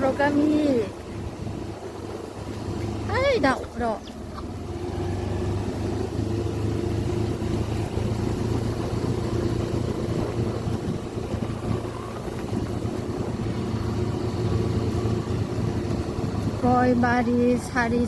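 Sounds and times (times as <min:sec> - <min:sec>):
road noise: 0:00.0 - 0:18.0
vehicle engine running: 0:00.0 - 0:18.0.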